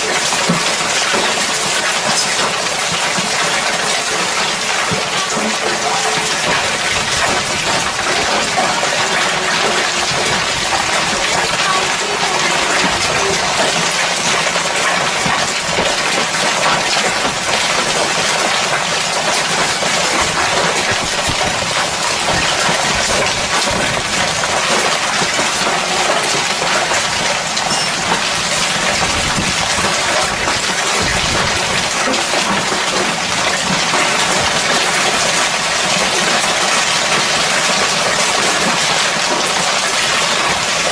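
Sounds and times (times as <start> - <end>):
hail and rain falling hard: 0.0 - 40.9.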